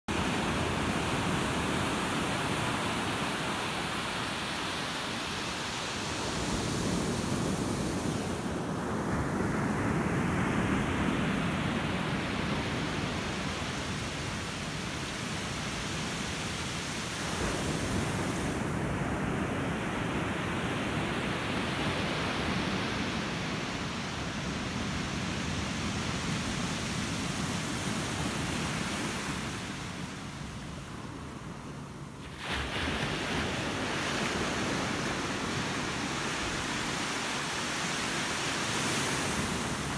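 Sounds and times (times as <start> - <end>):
ocean waves breaking: 0.1 - 39.9.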